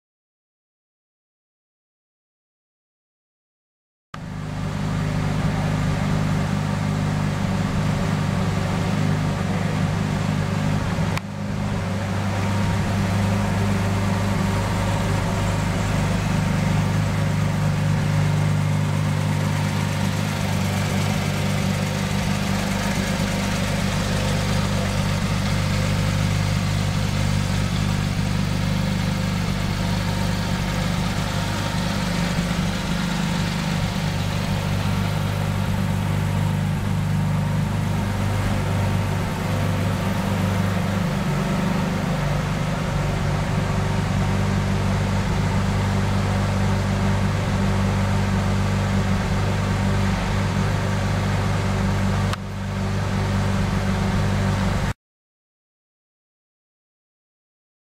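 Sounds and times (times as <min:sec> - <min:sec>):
car engine idling: 0:04.2 - 0:54.9.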